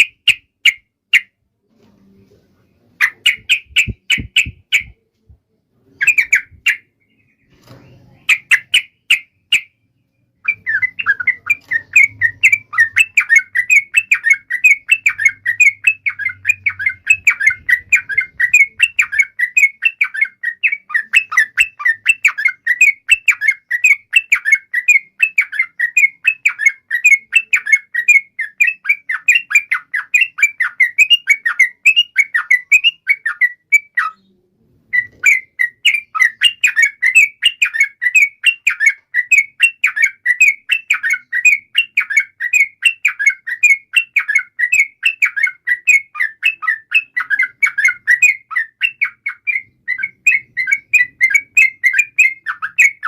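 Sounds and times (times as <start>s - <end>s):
bulbul singing: 0.0s - 1.4s, 2.8s - 5.1s, 5.8s - 53.0s.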